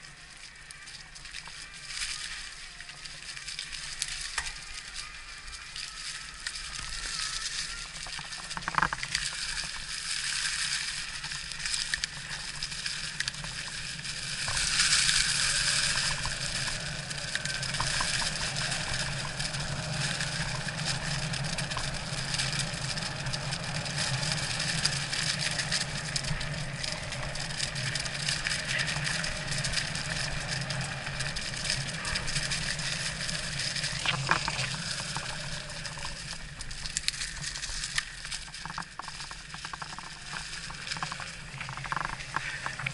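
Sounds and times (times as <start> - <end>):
bike tyres rolling over rough ground: 0.0 - 42.9.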